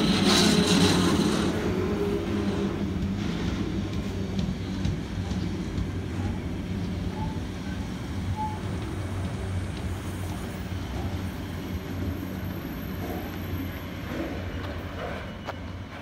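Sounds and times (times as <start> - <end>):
freight wagons rumbling on rails: 0.0 - 16.0.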